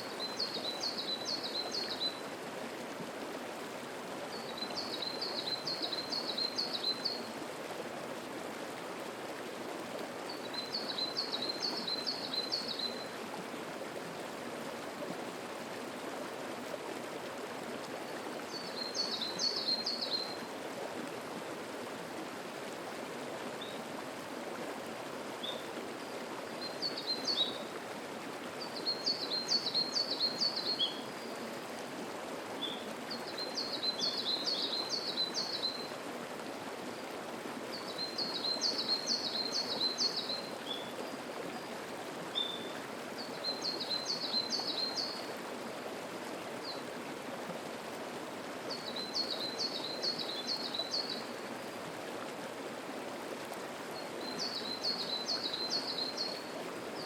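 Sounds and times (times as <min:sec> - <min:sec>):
stream rushing babble: 0:00.0 - 0:57.0.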